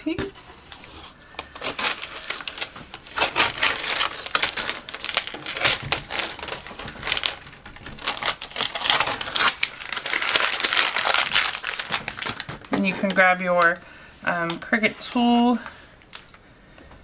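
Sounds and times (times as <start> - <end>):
vinyl crinkling: 0.0 - 17.0
vinyl peeling crackle: 0.8 - 16.4.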